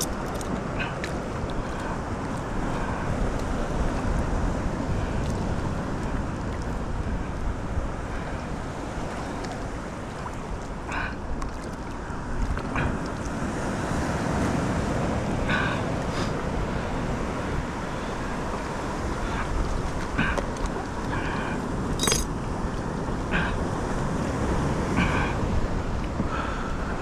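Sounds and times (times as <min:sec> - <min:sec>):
water sloshing against kayak: 0:00.0 - 0:14.5, 0:17.8 - 0:26.7.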